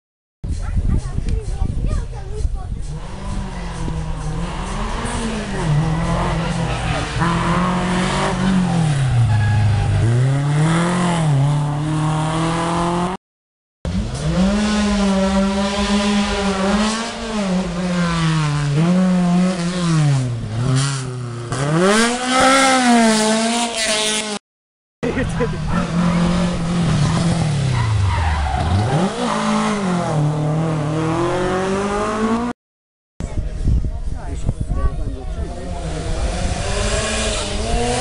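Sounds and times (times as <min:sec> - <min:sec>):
rally car engine revving: 0:02.2 - 0:13.2, 0:13.9 - 0:24.4, 0:25.0 - 0:32.5, 0:35.3 - 0:38.0.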